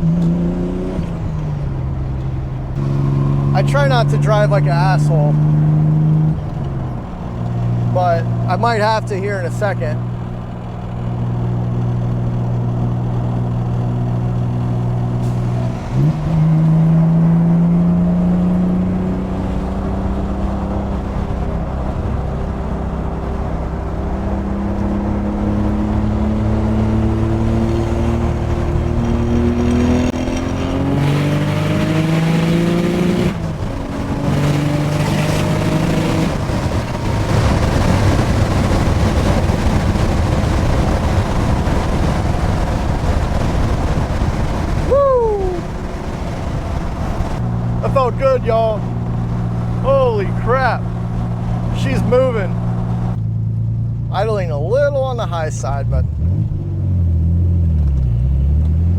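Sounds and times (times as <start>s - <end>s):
turbo car engine accelerating: 0.0s - 58.9s.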